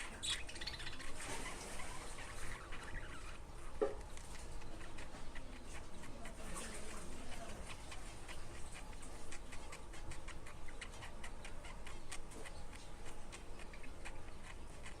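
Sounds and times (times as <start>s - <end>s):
birds clicking and chipping: 0.0s - 15.0s.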